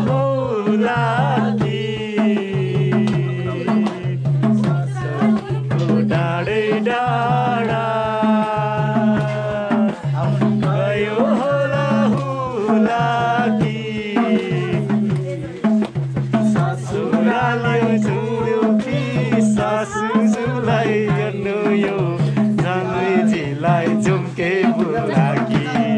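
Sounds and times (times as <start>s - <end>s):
hand drum rhythm: 0.0s - 25.9s.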